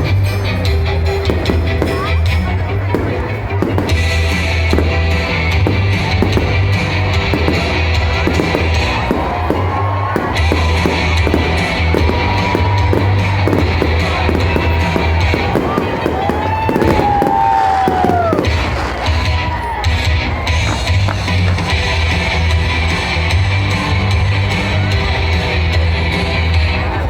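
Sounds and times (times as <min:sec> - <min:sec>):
loud music: 0:00.0 - 0:27.0.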